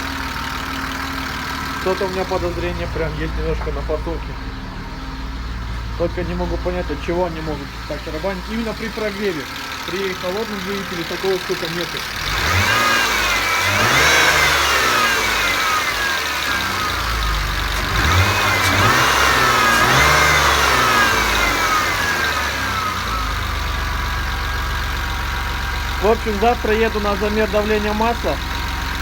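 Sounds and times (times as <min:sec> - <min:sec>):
car engine revving and idling: 0:00.0 - 0:29.0.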